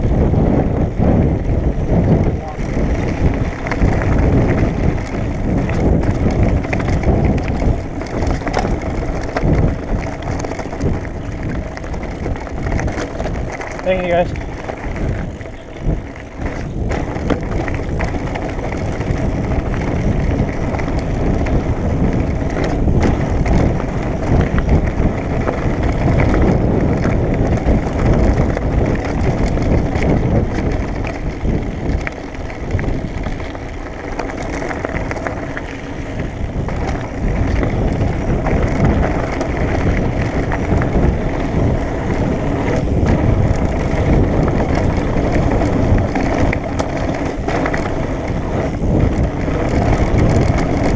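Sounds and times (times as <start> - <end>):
bike rattling and knocking: 0.0 - 50.9
wind buffeting microphone: 0.0 - 50.9
tyres crunching on gravel: 2.0 - 50.9.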